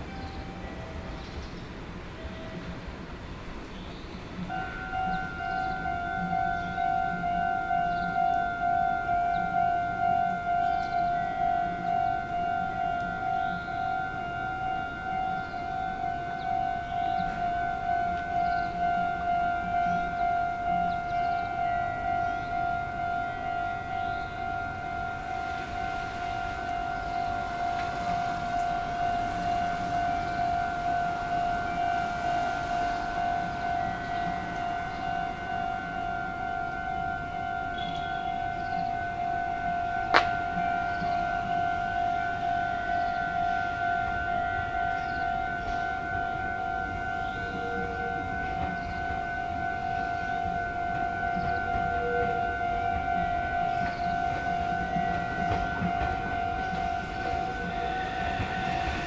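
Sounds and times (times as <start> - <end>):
level-crossing alarm clanging: 0.0 - 59.0.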